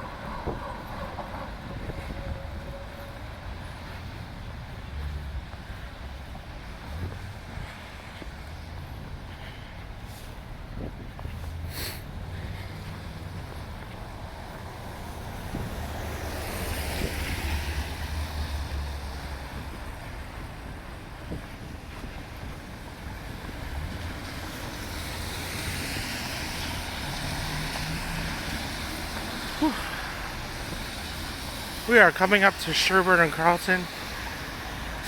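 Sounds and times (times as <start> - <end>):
wind buffeting microphone: 0.0 - 31.9
vehicle engine rumble: 0.0 - 32.8
tyres hissing on slushy road: 0.0 - 35.0.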